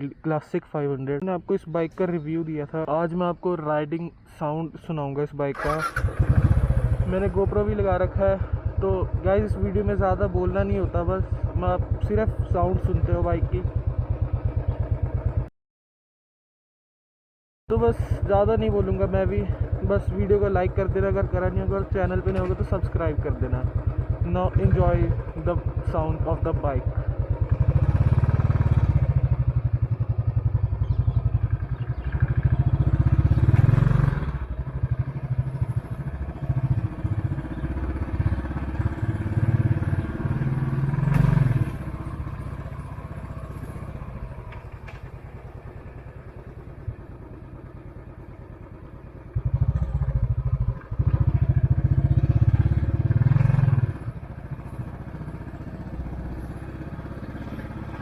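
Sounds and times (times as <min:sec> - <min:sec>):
motorcycle engine running: 0:05.6 - 0:15.5, 0:17.7 - 0:58.0.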